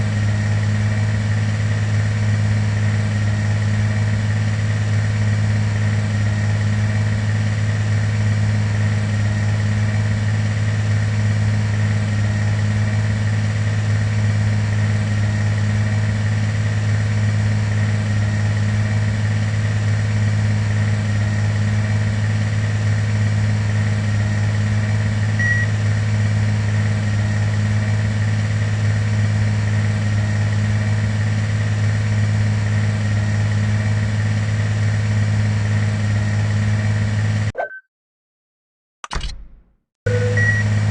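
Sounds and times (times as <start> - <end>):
airliner engine drone in cabin: 0.0 - 37.5, 40.1 - 40.9.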